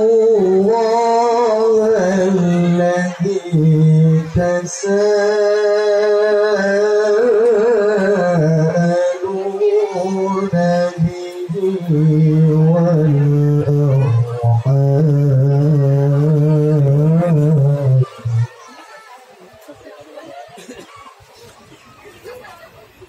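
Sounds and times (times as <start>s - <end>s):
man singing over a pa: 0.0s - 18.5s.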